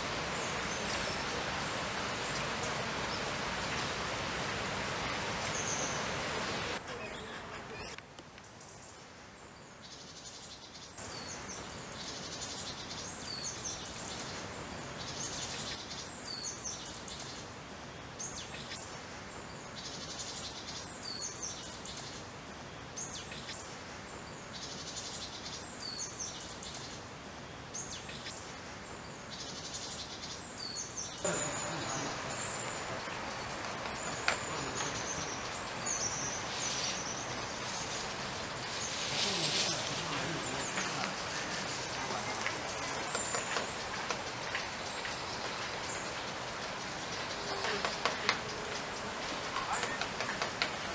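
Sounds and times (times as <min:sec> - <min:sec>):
birds chirping: 0:00.0 - 0:17.4, 0:22.8 - 0:50.9
steady background hiss: 0:00.0 - 0:50.9.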